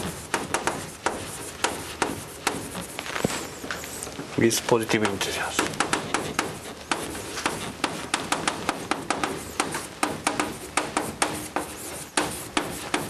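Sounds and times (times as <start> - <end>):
chalk writing on a blackboard: 0.0 - 4.1, 4.7 - 13.0.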